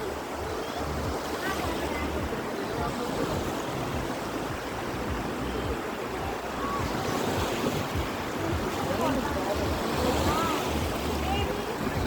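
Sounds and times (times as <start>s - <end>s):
surf breaking on beach: 0.0s - 12.0s.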